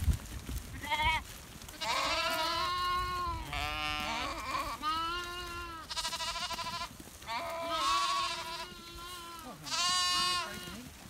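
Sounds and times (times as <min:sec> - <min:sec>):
sheep bleating: 0:00.8 - 0:10.9.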